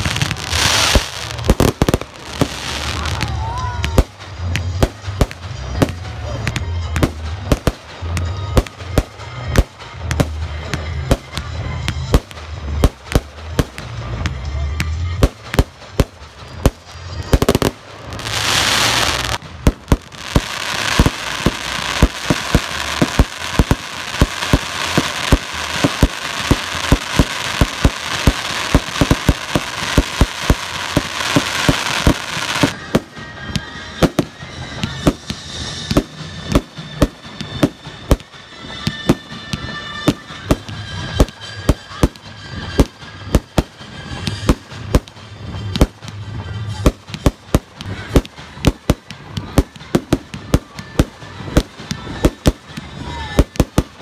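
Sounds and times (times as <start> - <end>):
crackling firework hiss: 0.0 - 6.5, 7.2 - 54.0.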